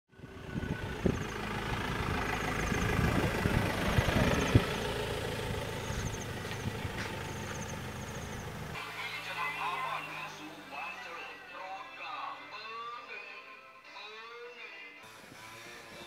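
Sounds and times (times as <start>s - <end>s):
vehicle engine running: 0.1s - 12.4s, 15.0s - 16.0s
road noise: 0.1s - 14.4s, 15.0s - 16.0s.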